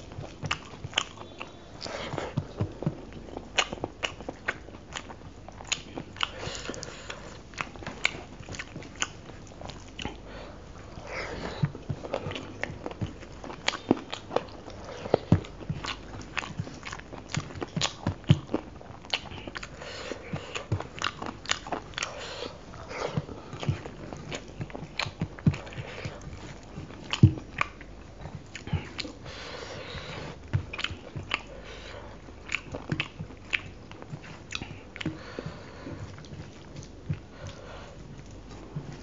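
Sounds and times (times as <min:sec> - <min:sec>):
wet chewing and lip smacks: 0:00.0 - 0:10.2, 0:11.5 - 0:39.0.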